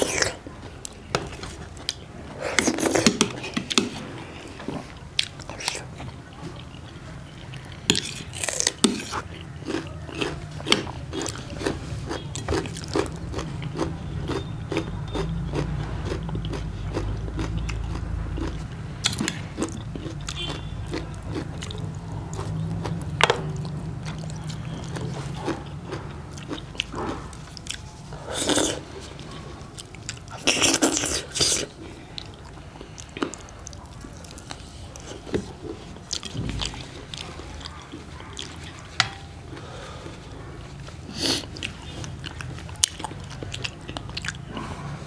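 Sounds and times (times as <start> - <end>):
moist chewing: 0.0 - 44.9.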